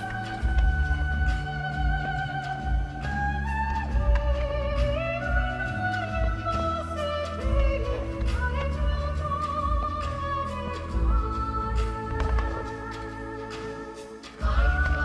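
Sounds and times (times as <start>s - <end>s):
orchestral music over loudspeakers: 0.0s - 15.0s.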